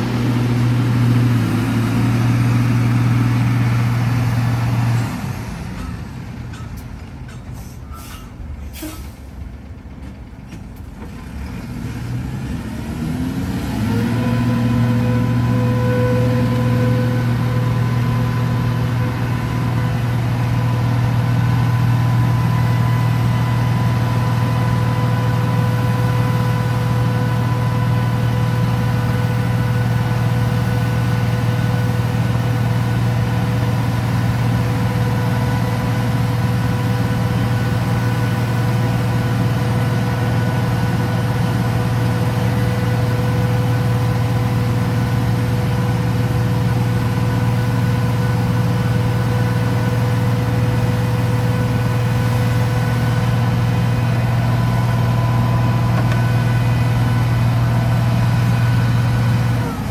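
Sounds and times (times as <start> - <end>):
diesel engine droning with whine: 0.0 - 59.9.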